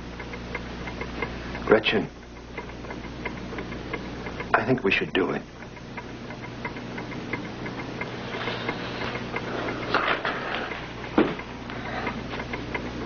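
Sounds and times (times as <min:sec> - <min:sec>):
rapid mechanical ticking: 0:00.0 - 0:13.0.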